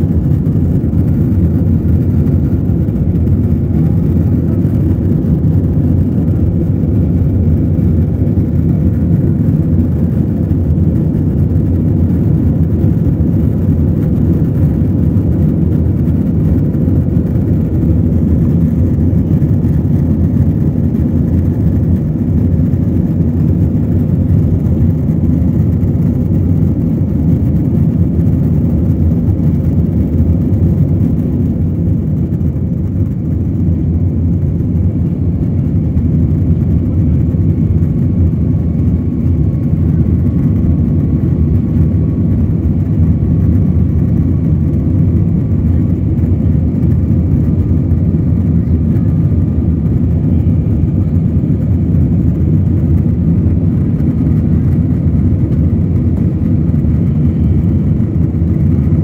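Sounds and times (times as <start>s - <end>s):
jet cabin engine drone: 0.0s - 59.0s.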